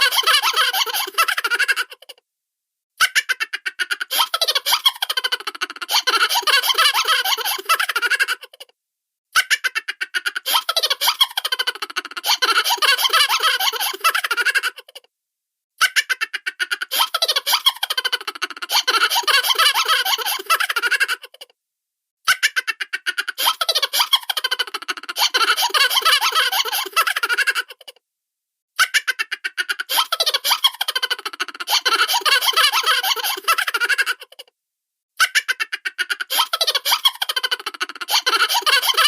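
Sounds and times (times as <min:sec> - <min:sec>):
cartoon high-pitched giggles: 0:00.0 - 0:02.2, 0:03.0 - 0:08.7, 0:09.4 - 0:15.1, 0:15.8 - 0:21.5, 0:22.3 - 0:28.0, 0:28.8 - 0:34.5, 0:35.2 - 0:39.0.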